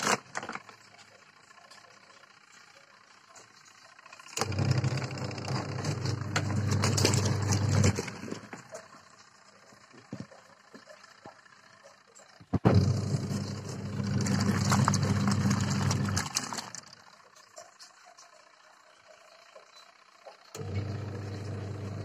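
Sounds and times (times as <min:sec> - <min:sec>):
washing machine motor humming: 0:00.0 - 0:22.0.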